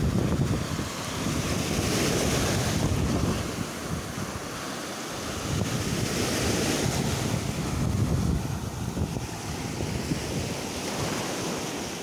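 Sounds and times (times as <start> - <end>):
sea waves washing over pebbles: 0.0 - 12.0
wind buffeting microphone: 0.0 - 12.0.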